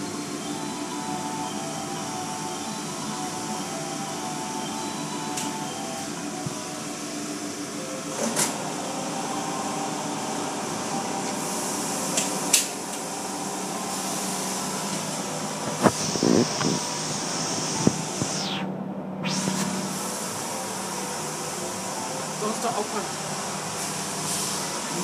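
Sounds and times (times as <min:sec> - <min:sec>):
car wash water spray and machinery: 0:00.0 - 0:25.0.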